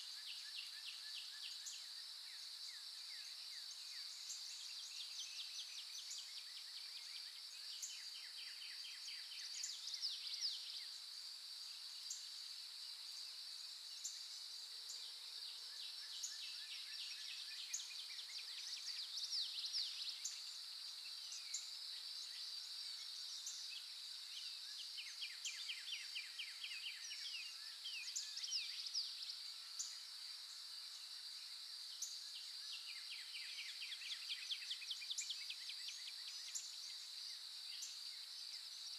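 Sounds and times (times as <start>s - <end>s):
high insect drone: 0.0s - 38.9s.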